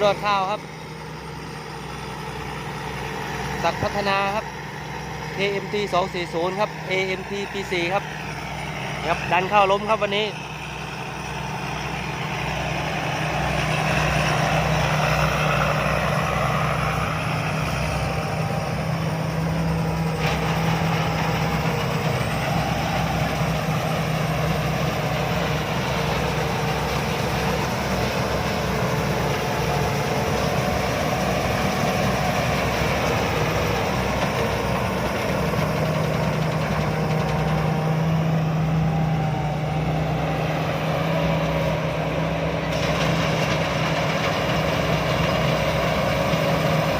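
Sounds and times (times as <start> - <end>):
combine harvester engine drone: 0.0 - 46.9
threshing machinery hum: 0.0 - 46.9.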